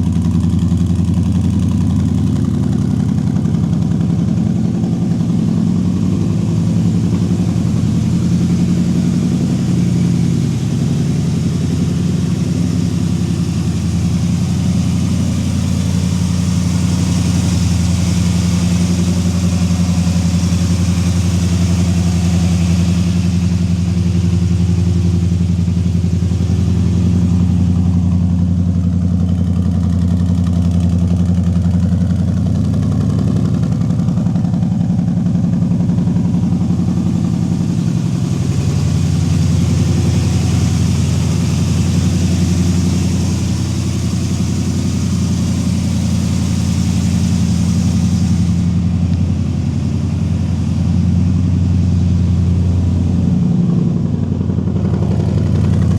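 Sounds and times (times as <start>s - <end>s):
pickup engine idling: 0.0s - 55.9s.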